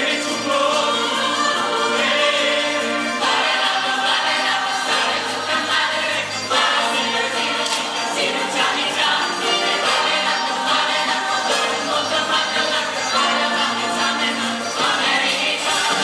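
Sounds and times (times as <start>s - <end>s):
choir singing in harmony: 0.0s - 16.0s.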